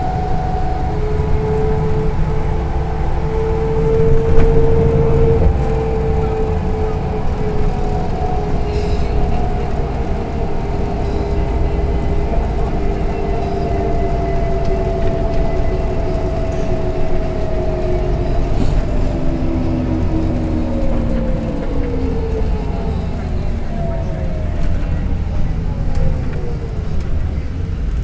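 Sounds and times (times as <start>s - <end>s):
falling whine: 0.0s - 27.7s
bus engine and drivetrain hum: 0.0s - 28.0s
low road rumble: 0.0s - 28.0s
lower whine: 0.0s - 28.0s.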